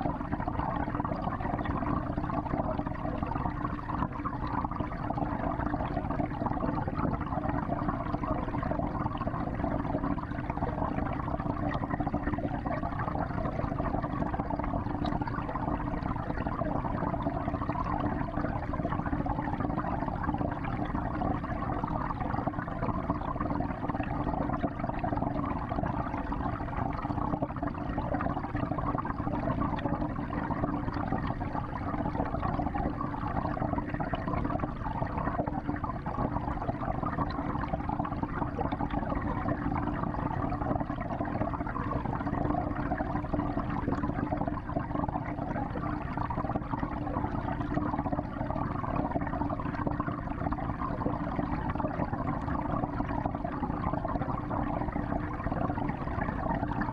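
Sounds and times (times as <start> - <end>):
water churning and bubbling: 0.0 - 56.9.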